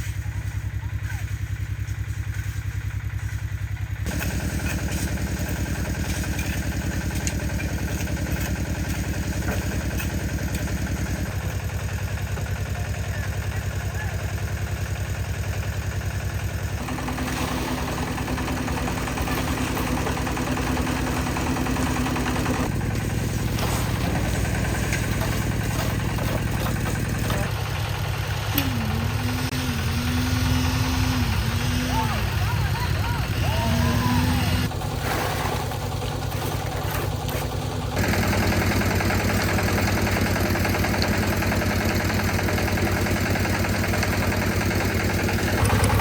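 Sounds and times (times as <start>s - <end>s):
concrete mixer engine running: 0.0s - 46.0s.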